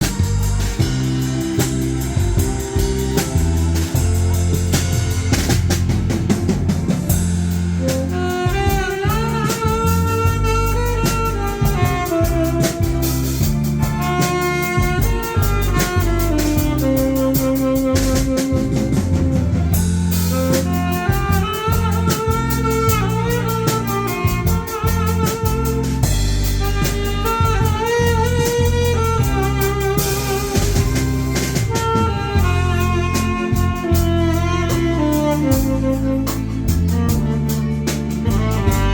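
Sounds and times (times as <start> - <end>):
pop song with drums and bass: 0.0 - 38.9
wavering lead melody: 0.0 - 38.9.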